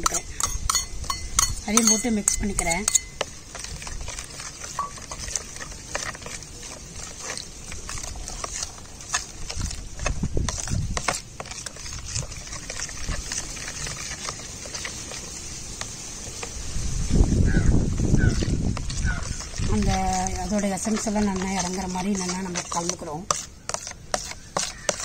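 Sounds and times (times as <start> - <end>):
metal spoon stirring in plastic tub: 0.0 - 16.6, 17.5 - 25.0.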